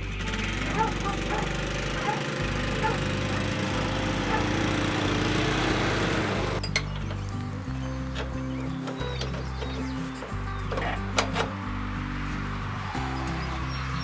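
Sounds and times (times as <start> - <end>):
background music: 0.0 - 14.0
small engine running: 0.0 - 14.0.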